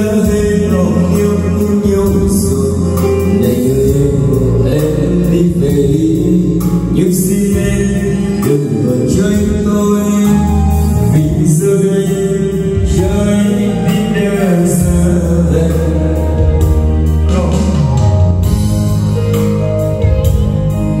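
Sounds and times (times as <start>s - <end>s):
man singing into a microphone: 0.0s - 18.5s
backing track with deep bass: 0.0s - 21.0s.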